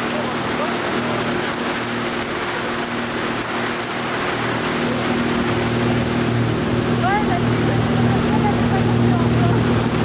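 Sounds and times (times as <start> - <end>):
motorboat engine humming: 0.0 - 10.0
water rushing and churning: 0.0 - 10.0.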